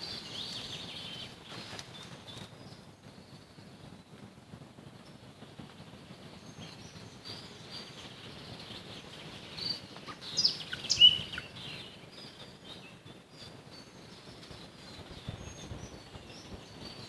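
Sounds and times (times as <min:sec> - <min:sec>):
nightingale singing: 0:00.0 - 0:04.1, 0:06.3 - 0:17.0
faint chorus of birds: 0:00.0 - 0:17.0.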